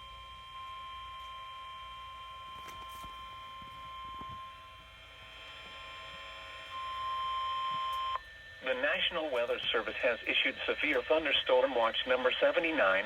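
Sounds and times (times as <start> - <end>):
steady high alarm tone: 0.0 - 13.0.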